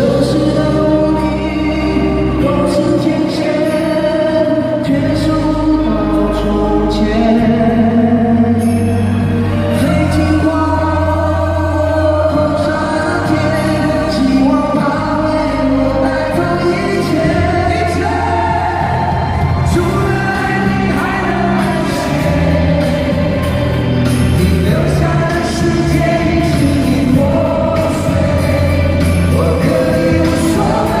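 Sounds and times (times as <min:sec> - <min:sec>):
band with steady bass: 0:00.0 - 0:31.0
man singing: 0:00.0 - 0:31.0.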